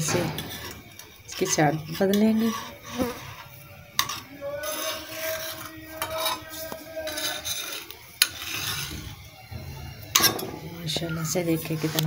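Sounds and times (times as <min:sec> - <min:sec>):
metal spatula scraping a pan: 0:00.0 - 0:12.0.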